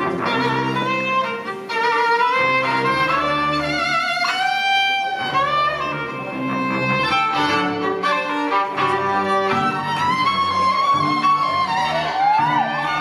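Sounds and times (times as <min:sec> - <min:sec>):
violin and cello bowing: 0:00.0 - 0:13.0.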